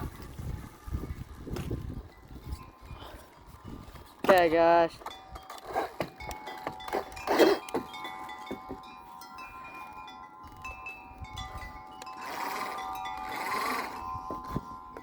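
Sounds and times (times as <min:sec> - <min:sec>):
wind chimes ringing: 0:01.9 - 0:15.0.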